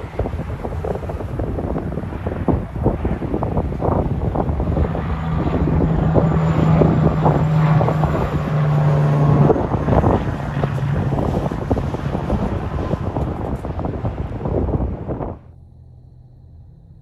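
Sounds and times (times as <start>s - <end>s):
wind buffeting microphone: 0.0s - 15.6s
truck engine passing: 0.0s - 17.0s.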